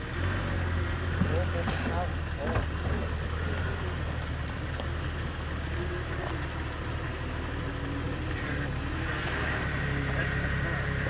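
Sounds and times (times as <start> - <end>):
engine running with low drone: 0.0 - 11.0.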